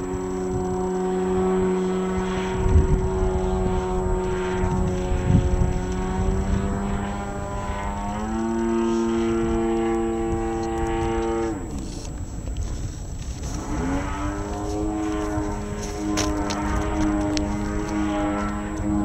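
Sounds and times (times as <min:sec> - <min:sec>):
model plane propeller drone: 0:00.0 - 0:19.0.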